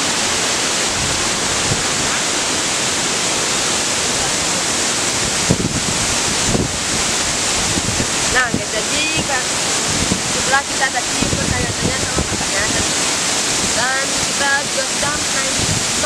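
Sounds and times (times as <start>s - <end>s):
waterfall roaring: 0.0s - 16.0s
wind buffeting microphone: 0.4s - 16.0s.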